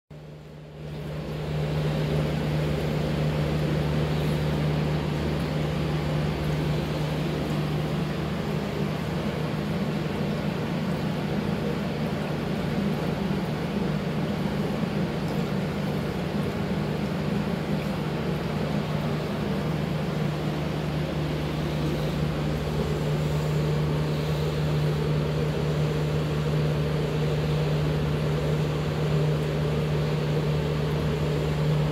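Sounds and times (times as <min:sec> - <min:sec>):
filter motor hum: 0:00.2 - 0:31.9
moving water: 0:00.2 - 0:31.9.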